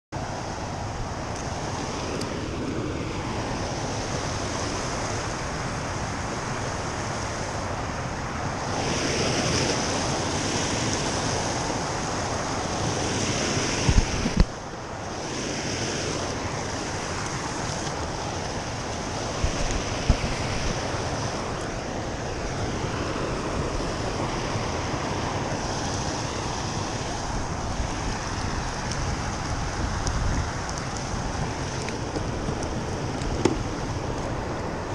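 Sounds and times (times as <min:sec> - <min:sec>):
river current rushing: 0:00.2 - 0:34.9
wind buffeting microphone: 0:00.2 - 0:34.9.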